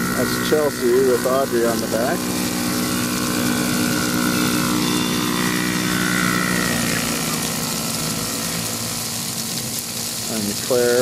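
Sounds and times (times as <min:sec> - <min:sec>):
quad engines droning: 0:00.0 - 0:11.0.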